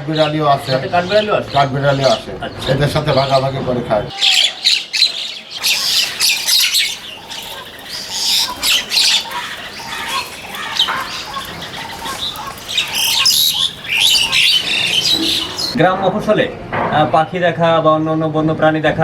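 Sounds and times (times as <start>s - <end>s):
flock of birds squawking: 0.0s - 15.8s.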